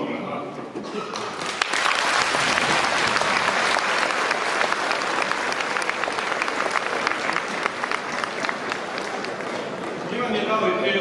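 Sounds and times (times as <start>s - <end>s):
audience applauding: 0.9s - 10.2s.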